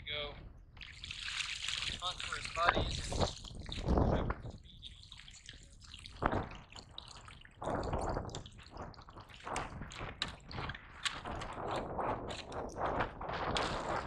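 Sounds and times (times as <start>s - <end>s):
water dripping: 0.7s - 14.0s
water splashing: 0.8s - 14.0s.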